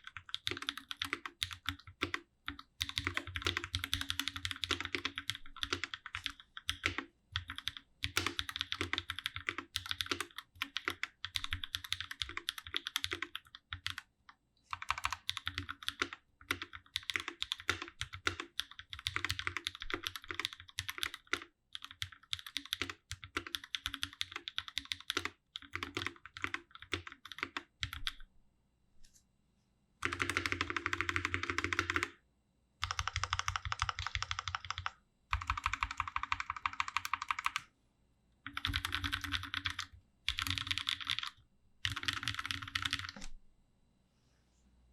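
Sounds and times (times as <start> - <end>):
mechanical keyboard typing: 0.0 - 14.1, 14.7 - 28.2, 30.0 - 32.2, 32.8 - 37.7, 38.5 - 43.3.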